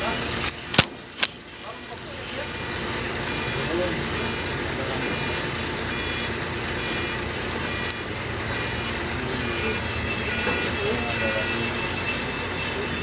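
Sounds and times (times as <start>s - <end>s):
diesel machinery engine rumbling: 0.0s - 13.0s
faint high steady tones: 0.0s - 13.0s.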